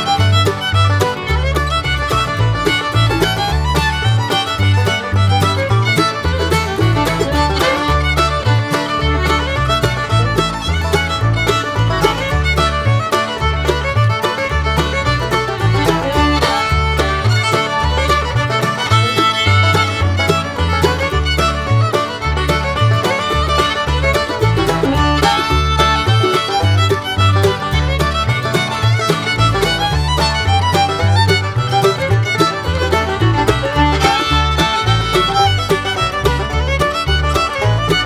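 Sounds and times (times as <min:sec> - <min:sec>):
instrumental music with bass line: 0:00.0 - 0:38.0.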